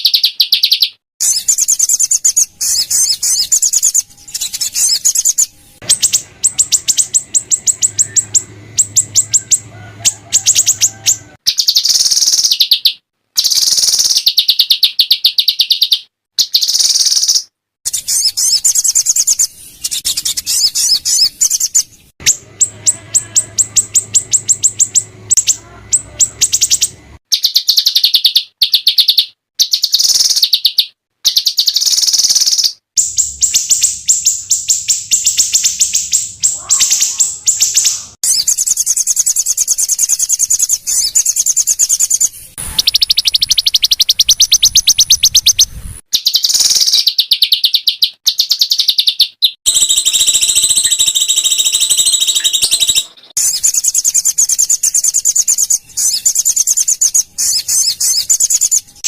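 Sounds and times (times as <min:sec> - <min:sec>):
songbirds trilling and chattering: 0:00.0 - 0:59.0.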